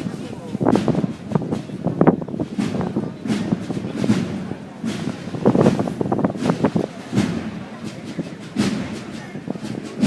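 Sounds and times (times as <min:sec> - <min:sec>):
people talking over one another: 0:00.0 - 0:10.0.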